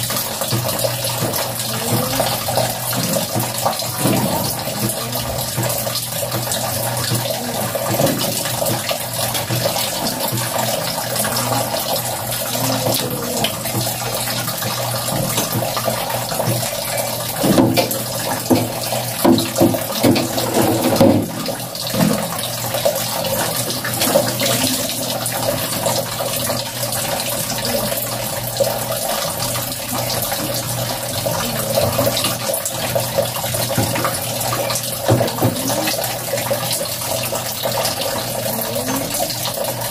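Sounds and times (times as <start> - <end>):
water running from a tap: 0.0 - 39.9.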